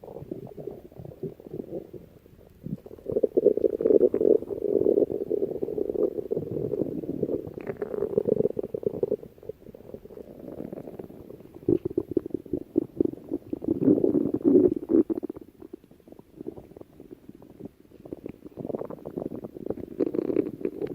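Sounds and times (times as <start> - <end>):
stomach growling: 0.0 - 20.9.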